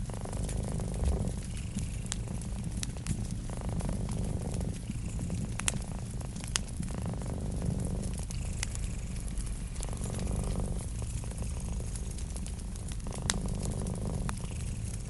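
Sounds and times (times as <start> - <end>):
cat purring: 0.0 - 15.0
wood fire crackling: 0.0 - 15.0.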